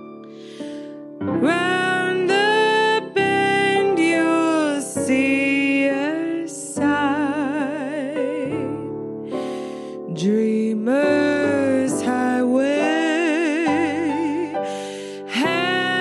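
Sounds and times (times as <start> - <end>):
soft instrumental accompaniment: 0.0 - 16.0
woman singing a slow ballad: 1.4 - 16.0.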